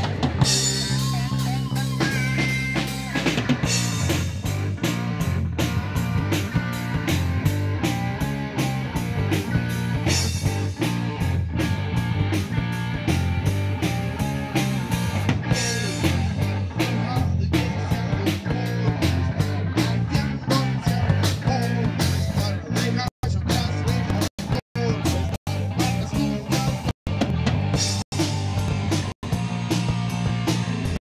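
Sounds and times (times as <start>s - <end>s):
bass guitar line: 0.0s - 31.0s
drum kit beat: 0.0s - 31.0s
guitar: 0.0s - 31.0s.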